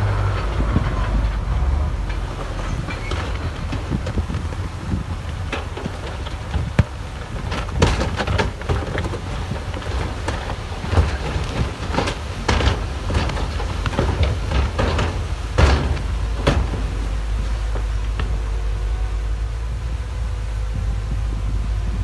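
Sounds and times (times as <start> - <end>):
diesel engine running low: 0.0 - 22.0
machinery clanks and knocks: 0.0 - 22.0.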